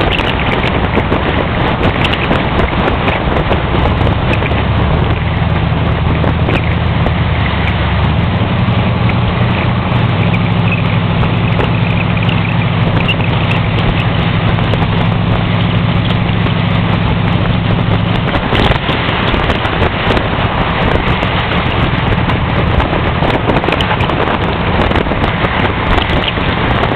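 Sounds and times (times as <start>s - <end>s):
car engine running: 0.0s - 26.9s
wind rushing over microphone: 0.0s - 26.9s.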